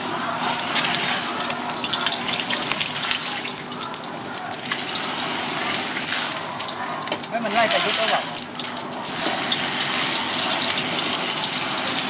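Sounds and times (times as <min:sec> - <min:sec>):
egg frying in hot oil: 0:00.0 - 0:12.0.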